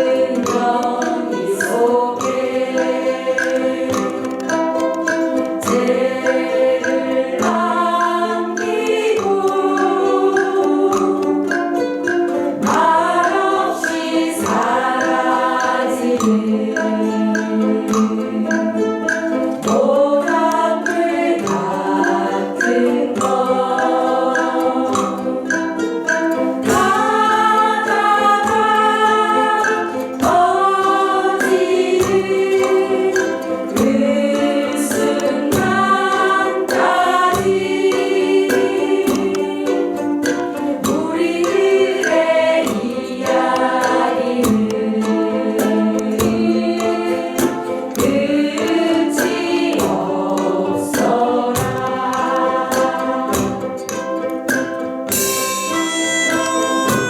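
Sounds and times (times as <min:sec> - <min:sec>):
group singing in unison: 0:00.0 - 0:57.0
ukuleles strumming: 0:00.0 - 0:57.0.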